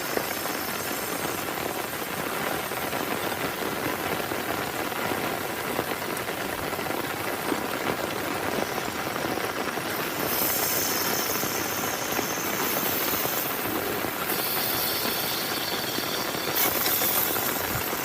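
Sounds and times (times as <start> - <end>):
heavy rain on a tent: 0.0 - 18.0.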